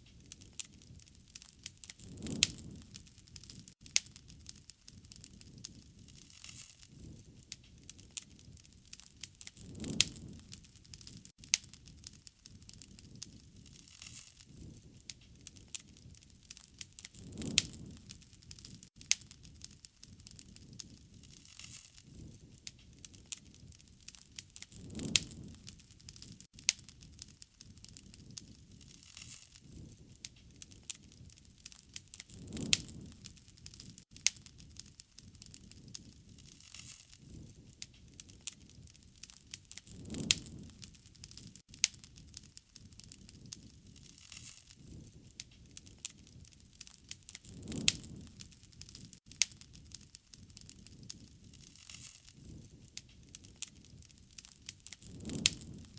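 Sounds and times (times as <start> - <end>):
wood fire crackling: 0.0 - 55.9
rushing swell of flame: 0.2 - 42.5, 43.2 - 55.9.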